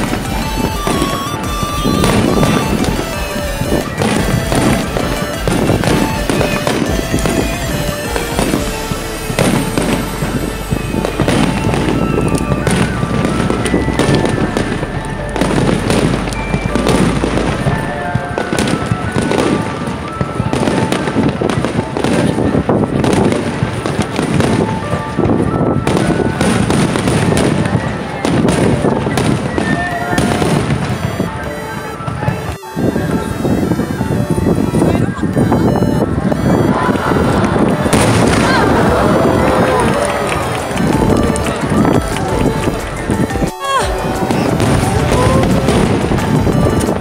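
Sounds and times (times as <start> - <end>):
firework shells bursting: 0.0 - 31.4, 36.2 - 47.0
music playing: 0.0 - 47.0.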